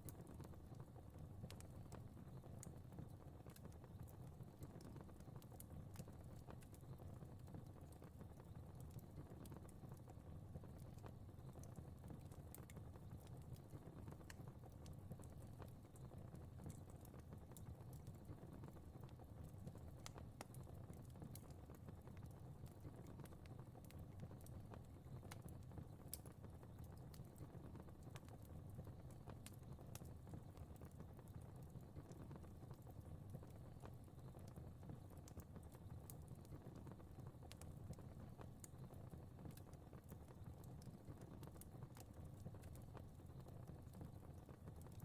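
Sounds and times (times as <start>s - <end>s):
fire crackling and popping: 0.0s - 45.0s
low rumble of flame: 0.0s - 45.0s.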